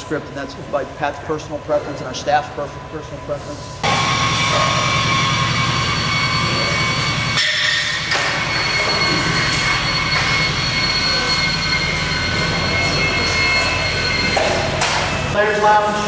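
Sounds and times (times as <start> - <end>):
construction machinery drone: 0.0 - 16.0
high whining tones: 1.0 - 16.0.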